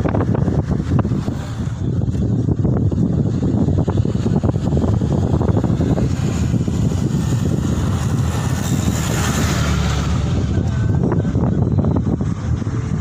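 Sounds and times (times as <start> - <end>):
road and wind noise in vehicle: 0.0 - 13.0.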